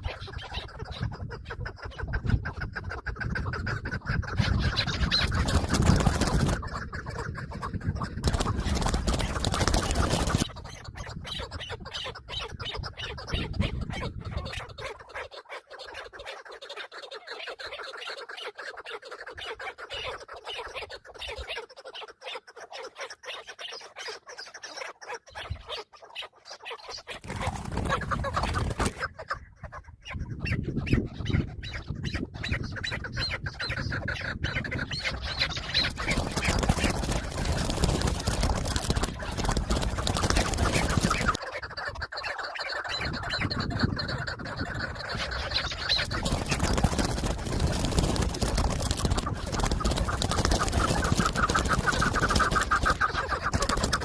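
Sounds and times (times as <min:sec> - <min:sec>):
partridge clucking calls: 0:00.0 - 0:54.0.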